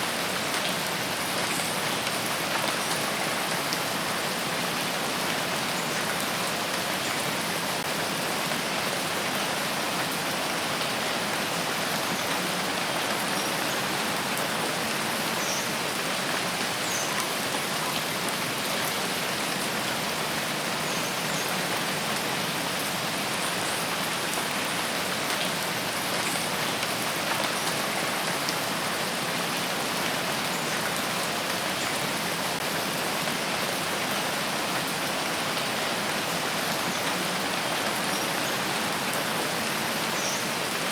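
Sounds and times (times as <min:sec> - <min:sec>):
rain falling on foliage: 0:00.0 - 0:40.9.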